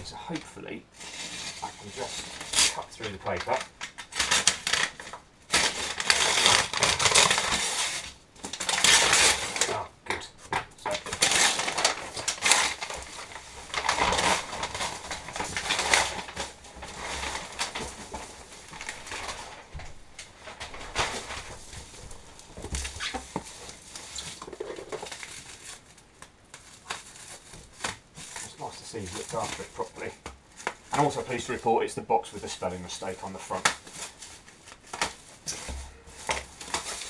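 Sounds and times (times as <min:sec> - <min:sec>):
packaging rustling and crinkling: 0:00.0 - 0:37.0.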